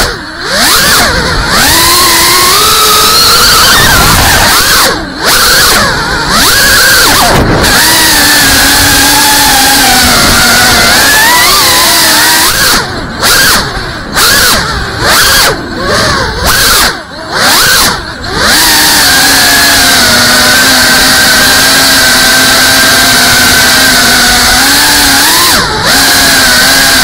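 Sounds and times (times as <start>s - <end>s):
drone motors and propellers whining: 0.0s - 27.0s.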